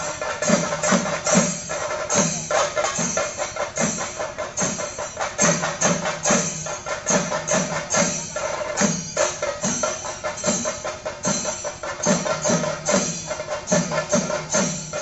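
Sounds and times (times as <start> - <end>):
ensemble beating drums: 0.0 - 15.0.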